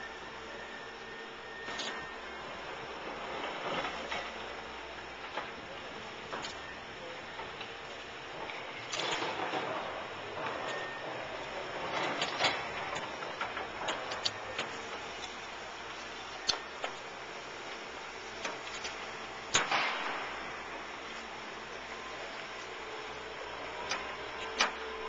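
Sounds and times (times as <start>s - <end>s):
construction site noise: 0.0s - 25.0s.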